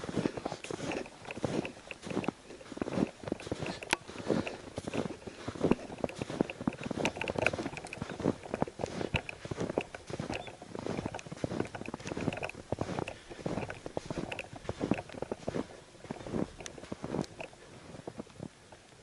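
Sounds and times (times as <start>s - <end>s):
footsteps crunching through snow: 0.0s - 18.7s.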